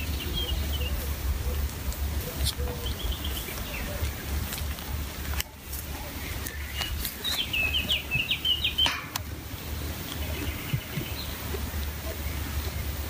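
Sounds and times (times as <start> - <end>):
songbird chirping: 0.0 - 13.0
steady low rumble: 0.0 - 13.0.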